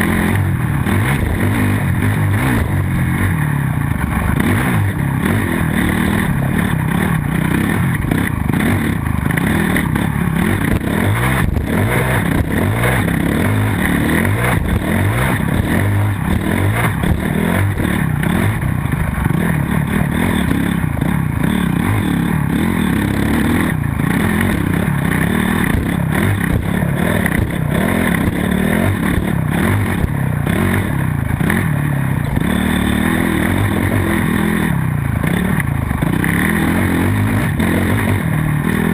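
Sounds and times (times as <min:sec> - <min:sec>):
clatter and rattle: 0:00.0 - 0:38.9
dirt bike engine revving: 0:00.0 - 0:38.9.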